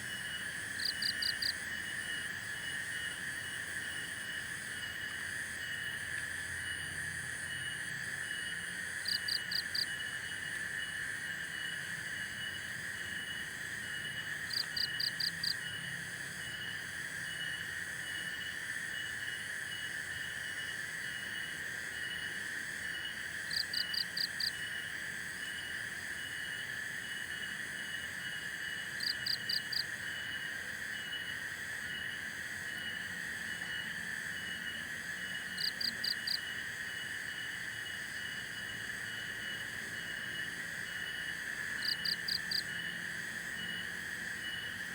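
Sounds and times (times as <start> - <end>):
insect chorus drone: 0.0 - 44.9.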